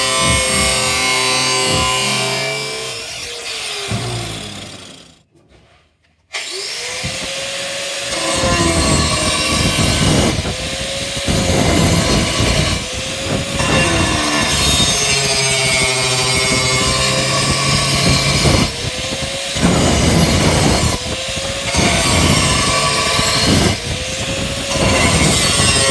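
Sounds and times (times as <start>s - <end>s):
angle grinder grinding steel: 0.0s - 5.2s, 6.4s - 25.9s.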